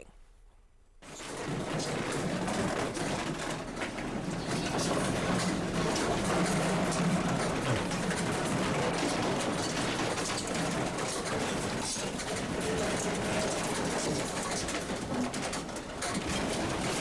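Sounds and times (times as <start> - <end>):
office fittings rattling: 1.0 - 17.0.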